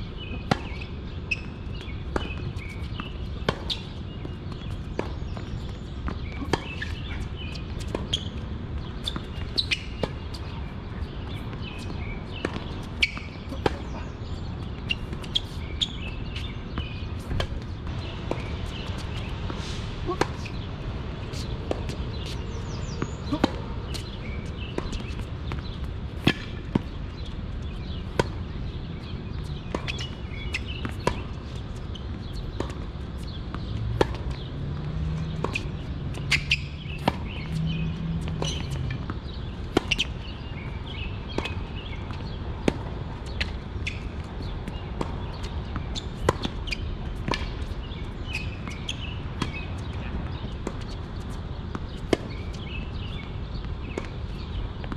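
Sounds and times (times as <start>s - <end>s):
tennis balls struck with rackets: 0.2s - 14.0s, 14.6s - 54.9s
tennis balls bouncing on court: 0.2s - 54.9s.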